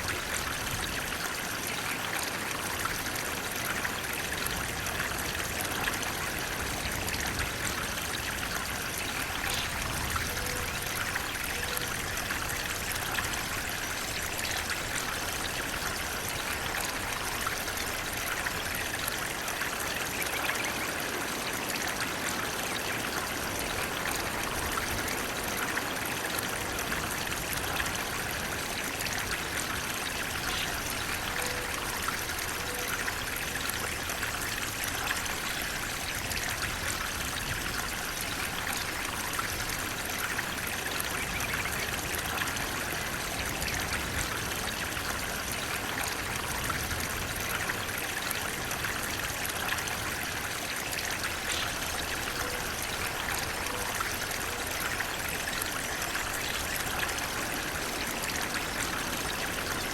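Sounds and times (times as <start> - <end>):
water rushing and splashing: 0.0 - 59.9.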